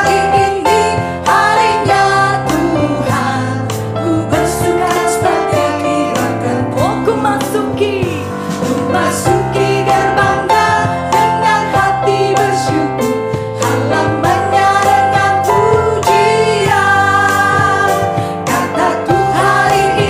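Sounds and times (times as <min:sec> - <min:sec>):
worship band with piano and drums: 0:00.0 - 0:20.0.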